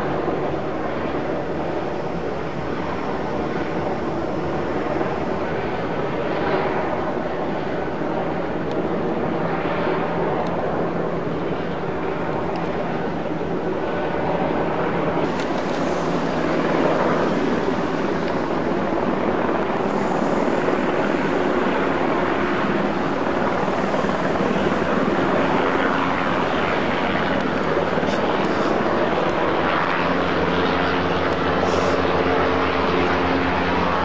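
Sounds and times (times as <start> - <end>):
helicopter flying low overhead: 0.0 - 34.0.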